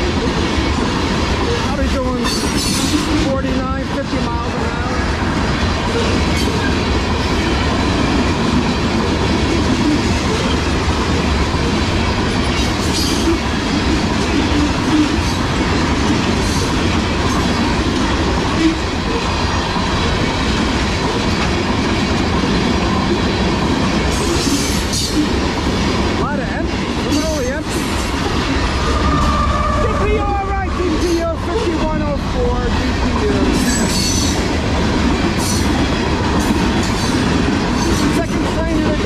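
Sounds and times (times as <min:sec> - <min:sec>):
freight train rumbling past: 0:00.0 - 0:39.0
steel wheels clattering on rails: 0:00.0 - 0:39.0.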